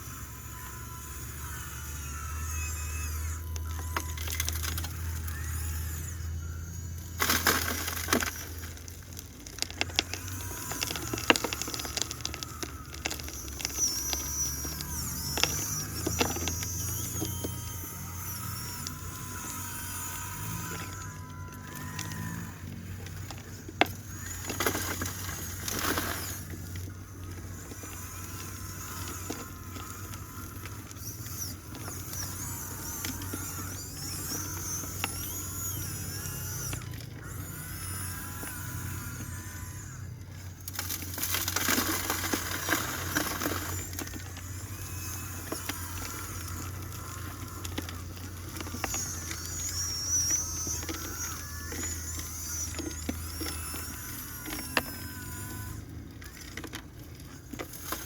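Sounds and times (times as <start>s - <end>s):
loud rough mechanical noise: 0.0s - 58.0s
small electric motors whining: 0.0s - 58.0s.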